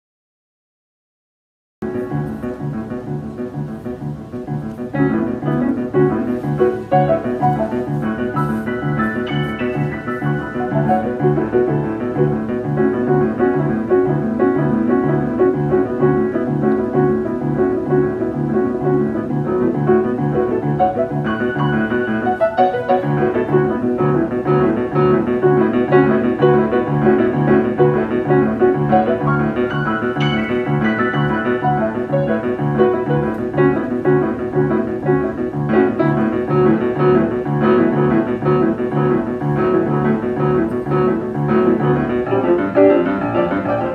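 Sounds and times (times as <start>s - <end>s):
solo jazz piano: 1.8s - 43.9s.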